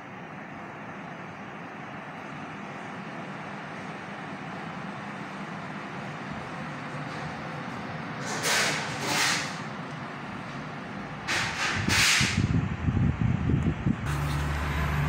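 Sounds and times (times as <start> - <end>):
air conditioner airflow hiss: 0.0 - 14.1.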